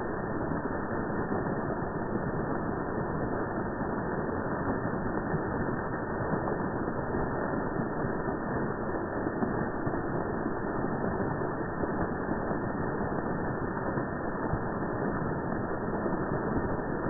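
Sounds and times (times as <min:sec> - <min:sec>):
low steady water rushing: 0:00.0 - 0:17.0.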